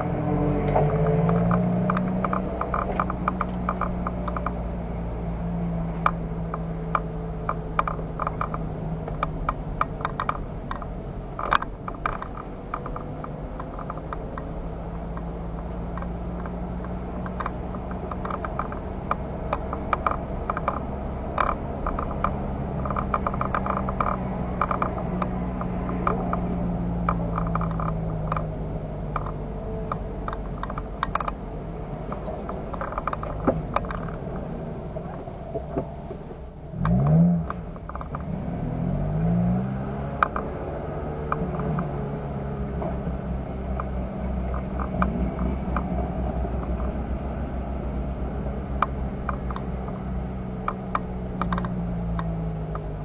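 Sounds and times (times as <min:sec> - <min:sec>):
car engine running at low revs: 0:00.0 - 0:53.0
clicks and rattles: 0:00.7 - 0:04.6, 0:05.9 - 0:53.0.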